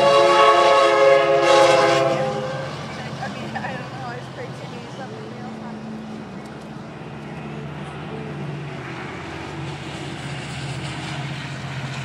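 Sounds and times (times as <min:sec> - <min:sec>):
diesel locomotive drone: 0:00.0 - 0:12.0
wheels rumbling on rails: 0:00.0 - 0:12.0.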